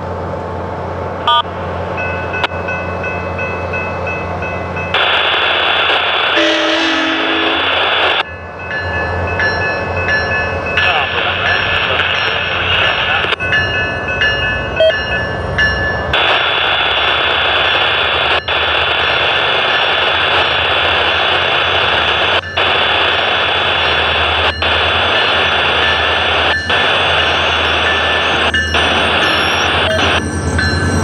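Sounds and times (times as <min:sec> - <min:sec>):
train rushing noise: 0:00.0 - 0:31.0.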